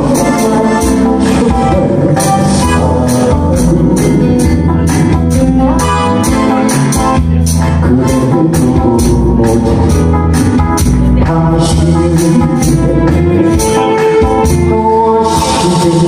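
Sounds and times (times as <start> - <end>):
organ-like keyboard: 0.0 - 16.0
steady drum beat: 0.0 - 16.0.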